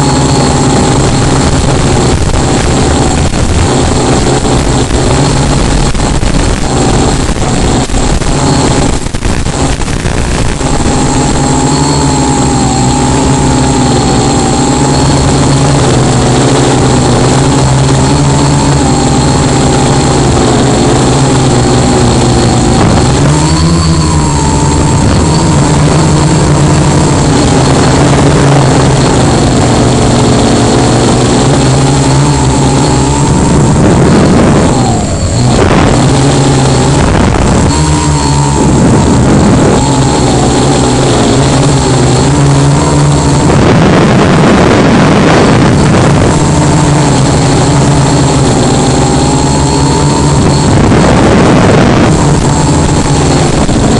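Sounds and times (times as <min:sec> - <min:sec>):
electric motors and propellers droning: 0:00.0 - 0:53.9.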